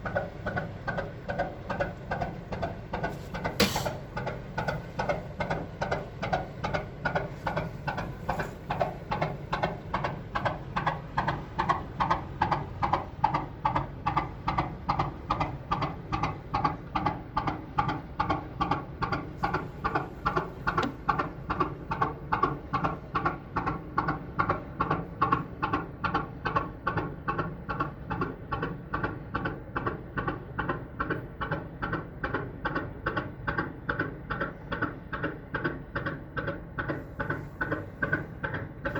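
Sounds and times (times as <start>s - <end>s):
marine diesel engine running: 0.0s - 38.9s.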